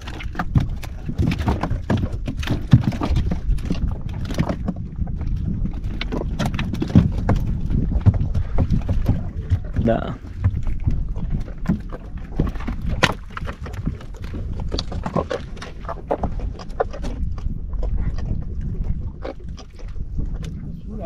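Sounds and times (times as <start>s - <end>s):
wind and sea against boat hull: 0.0s - 21.0s.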